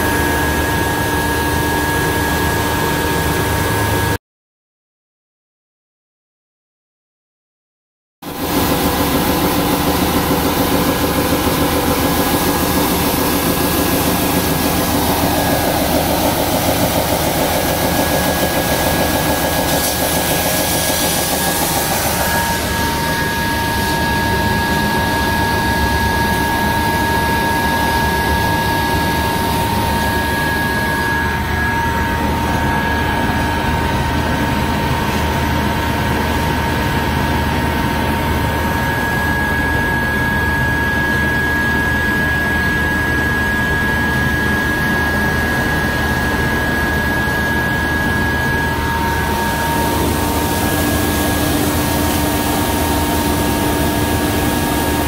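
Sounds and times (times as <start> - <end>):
lower whine: 0.0 - 4.2, 8.3 - 55.0
machine high whine: 0.0 - 4.2, 8.3 - 55.0.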